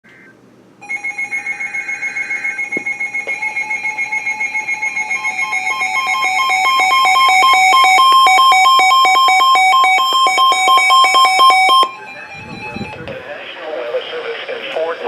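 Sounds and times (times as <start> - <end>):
two-pitch electronic alarm beeping: 0.8 - 13.3.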